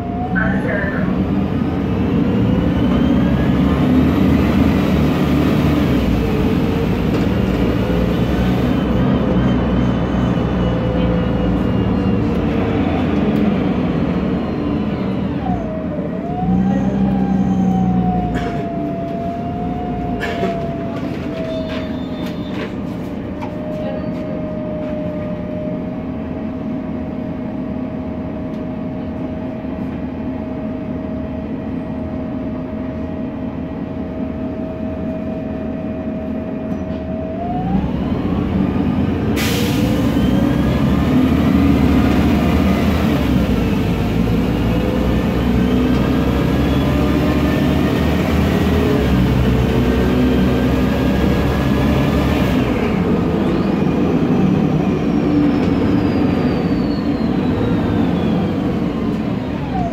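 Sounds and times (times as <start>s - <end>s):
bus engine: 0.0s - 59.9s.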